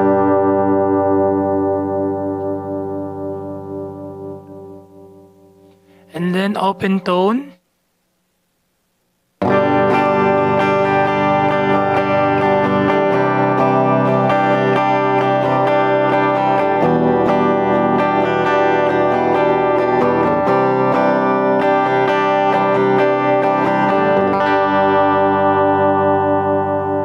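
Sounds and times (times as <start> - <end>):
clean electric guitar strumming chords: 0.0 - 7.6, 9.4 - 27.0.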